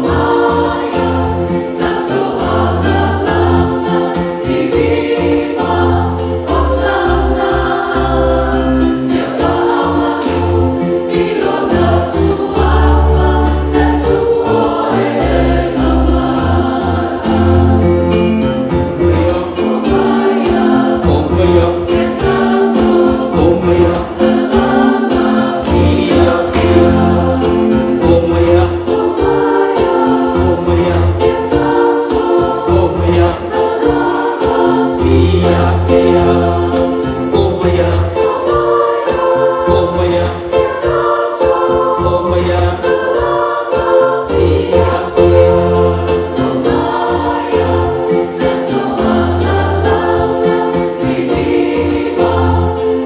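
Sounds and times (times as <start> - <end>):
choir singing gospel song: 0.0 - 53.0
instrumental backing: 0.0 - 53.0.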